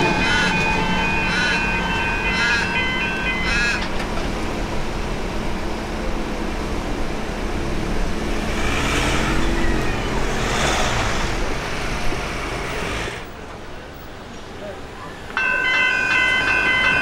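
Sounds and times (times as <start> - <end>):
cars passing: 0.0 - 17.0
traffic rumble: 0.0 - 17.0.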